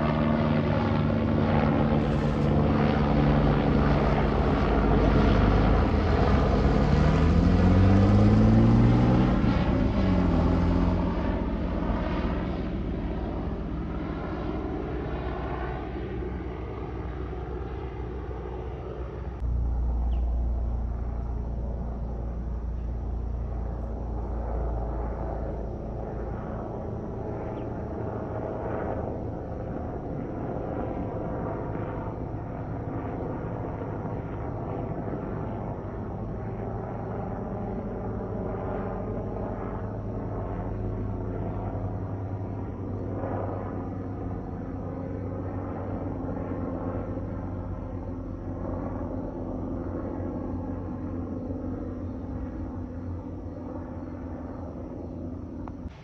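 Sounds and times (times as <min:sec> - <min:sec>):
aircraft engine drone: 0:00.0 - 0:56.0.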